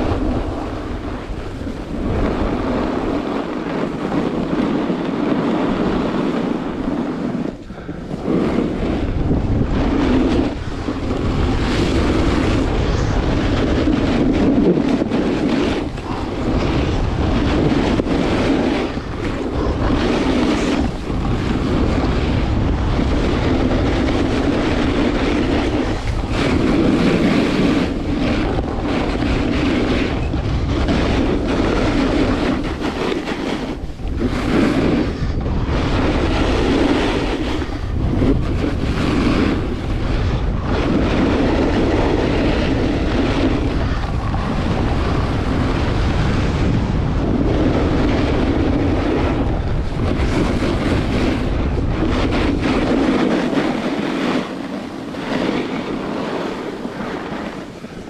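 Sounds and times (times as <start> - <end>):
skis scraping over snow: 0.0 - 58.0
wind buffeting microphone: 0.0 - 58.0.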